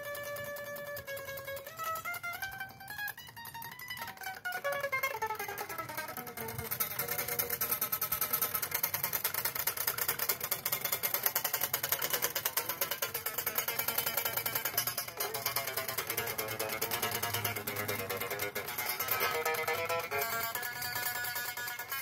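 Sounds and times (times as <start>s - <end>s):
electric guitar picking: 0.0s - 22.0s.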